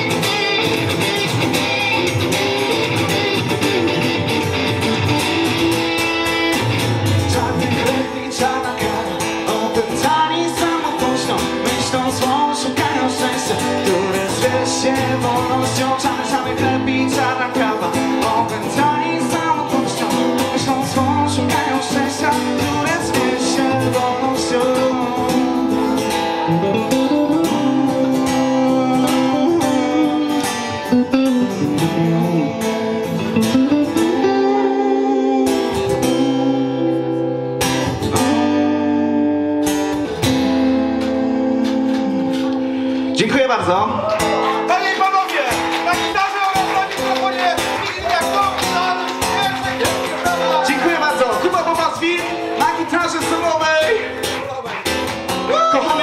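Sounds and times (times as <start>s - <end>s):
acoustic guitar: 0.0s - 56.0s
electric guitar: 0.0s - 56.0s.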